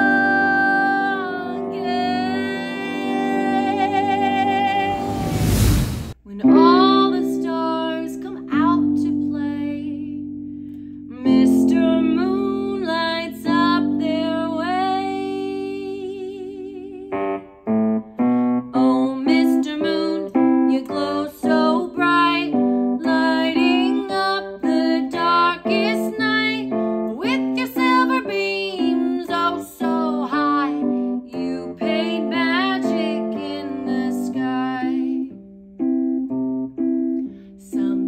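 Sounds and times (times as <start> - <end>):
sung melody: 0.0 - 5.7, 6.3 - 38.0
piano music: 0.0 - 38.0.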